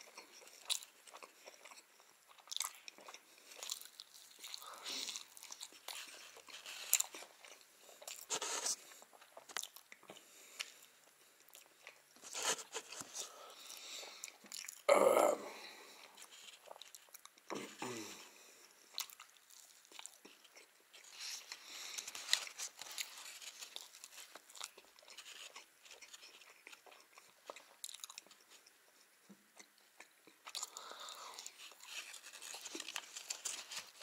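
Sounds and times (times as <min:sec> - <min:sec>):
chewing and biting mouth sounds: 0:00.0 - 0:14.9, 0:16.0 - 0:18.2, 0:18.8 - 0:34.0.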